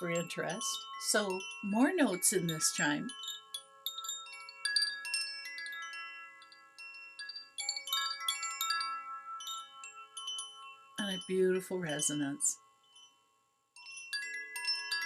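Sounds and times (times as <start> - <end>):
wind chime ringing: 0.0 - 15.0.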